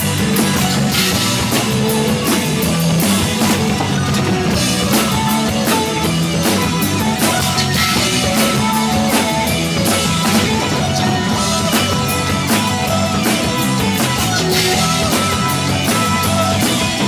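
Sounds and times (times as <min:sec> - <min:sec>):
drums striking: 0:00.0 - 0:17.0
held keyboard notes: 0:00.0 - 0:17.0
live rock band playing: 0:00.0 - 0:17.0.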